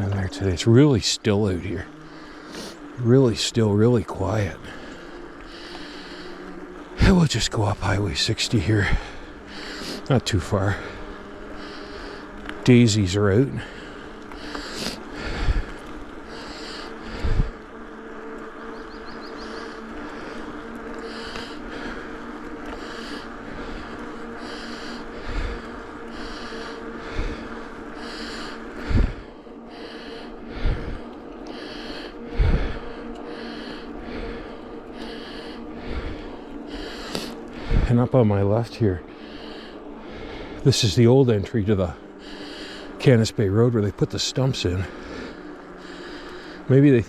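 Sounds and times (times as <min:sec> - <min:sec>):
steady riding hum: 0:00.0 - 0:47.0
cyclist breathing hard: 0:01.7 - 0:03.0, 0:04.2 - 0:47.0.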